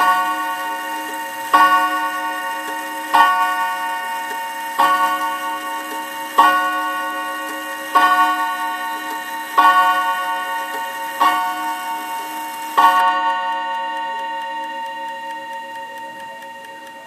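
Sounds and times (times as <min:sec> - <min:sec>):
mantel clock striking gong chords: 0:00.0 - 0:17.0.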